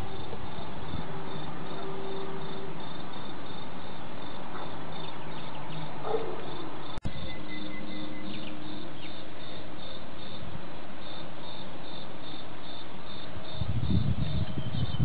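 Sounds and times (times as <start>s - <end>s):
cricket chirping: 0.0s - 15.0s
steady background hiss: 0.0s - 15.0s.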